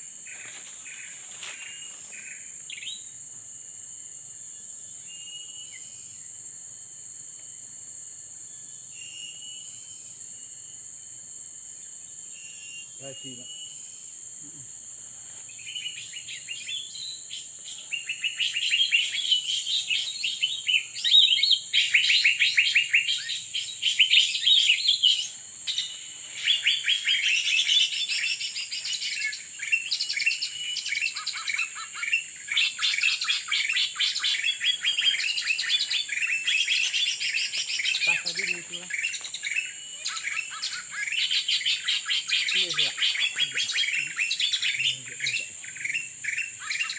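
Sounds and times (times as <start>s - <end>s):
high insect-like buzz: 0.0s - 46.9s
songbird chirping: 0.0s - 46.9s.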